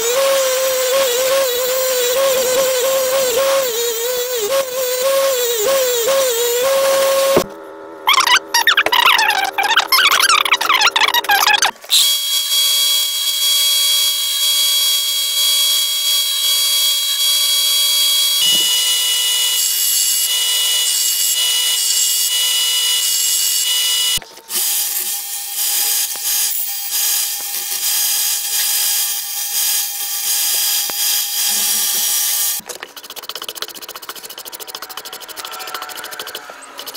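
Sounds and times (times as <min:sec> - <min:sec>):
belt sander grinding steel: 0:00.0 - 0:36.9
steady machine tone: 0:01.4 - 0:24.3, 0:28.0 - 0:36.9.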